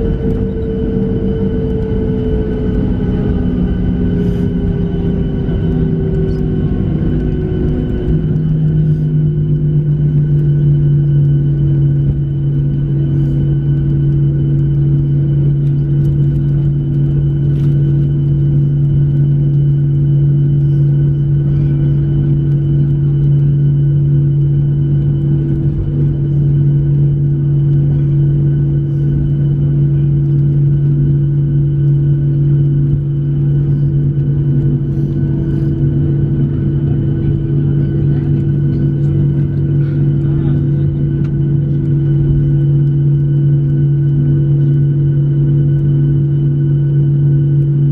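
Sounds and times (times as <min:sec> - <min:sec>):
airplane cabin drone: 0:00.0 - 0:47.9.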